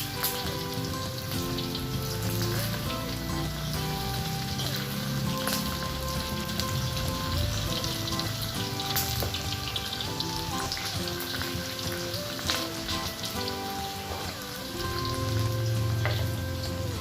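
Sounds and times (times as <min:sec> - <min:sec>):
food sizzling in hot oil: 0:00.0 - 0:17.0
instrumental background music: 0:00.0 - 0:17.0.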